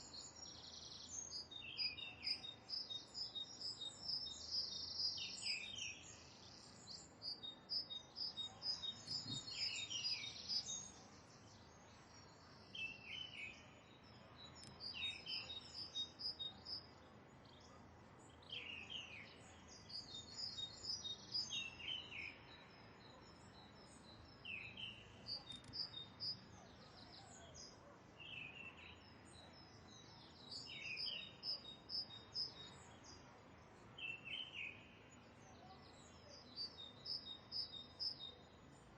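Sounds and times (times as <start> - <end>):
faint outdoor background: 0.0 - 38.9.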